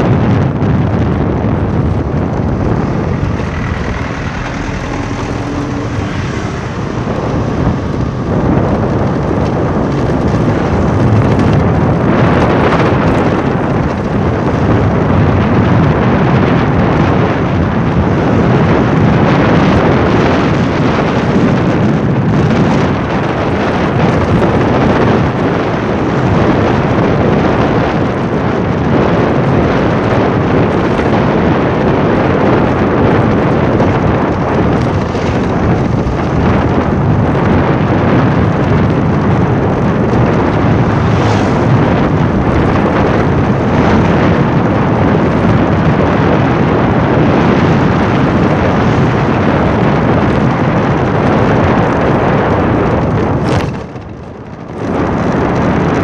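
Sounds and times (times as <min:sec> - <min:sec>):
car road and wind rumble: 0:00.0 - 0:56.0
wind buffeting microphone: 0:00.0 - 0:56.0.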